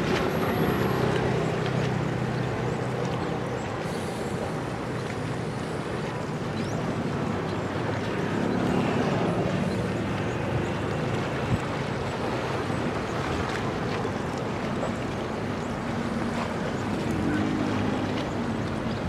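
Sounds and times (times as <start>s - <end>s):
water noise: 0.0s - 19.0s.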